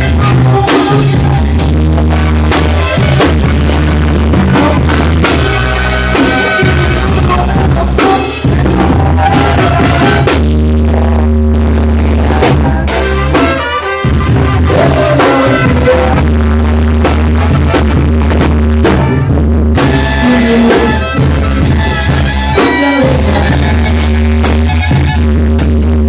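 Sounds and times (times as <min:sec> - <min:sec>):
brass-like lead melody: 0:00.0 - 0:26.0
drums: 0:00.0 - 0:26.0
loud music with heavy bass: 0:00.0 - 0:26.0.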